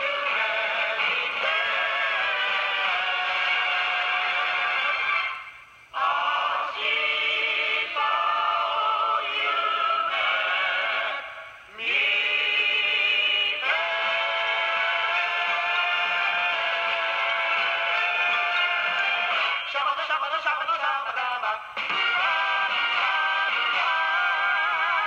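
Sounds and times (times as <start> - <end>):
singers with band holding chords: 0.0 - 5.1, 5.9 - 19.5, 21.8 - 25.0.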